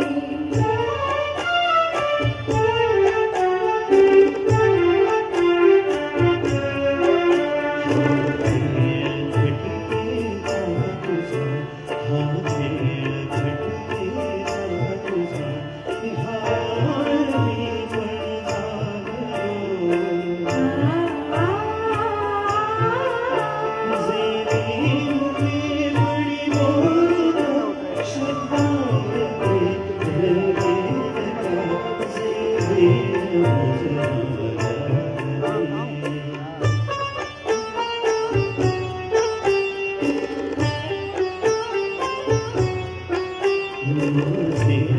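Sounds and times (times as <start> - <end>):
man singing: 0.0 - 37.8, 42.0 - 44.9
harmonium and keyboard melody: 0.0 - 44.9
tabla: 0.0 - 44.9.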